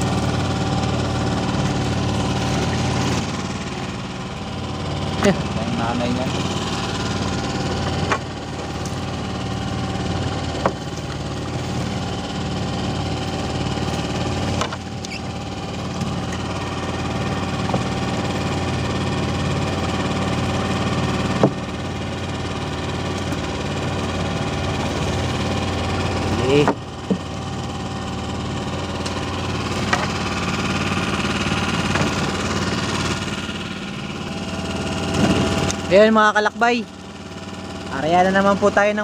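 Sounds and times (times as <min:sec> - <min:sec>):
small engine idling: 0:00.0 - 0:39.0.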